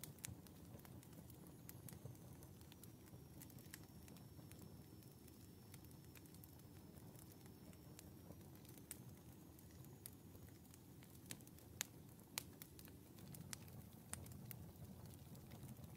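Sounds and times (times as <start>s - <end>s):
embers crackling: 0.0s - 15.9s.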